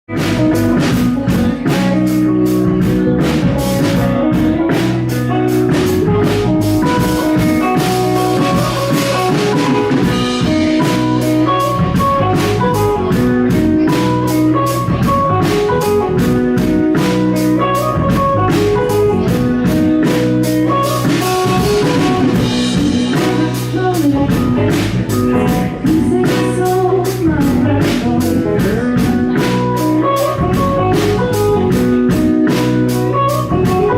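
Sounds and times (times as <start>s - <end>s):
guitar: 0.0s - 33.9s
drum kit beat: 0.1s - 33.9s
live band playing: 0.1s - 33.9s.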